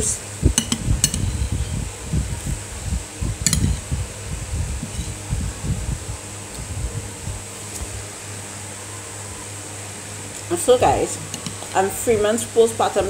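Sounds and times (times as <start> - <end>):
fan hum: 0.0 - 13.0.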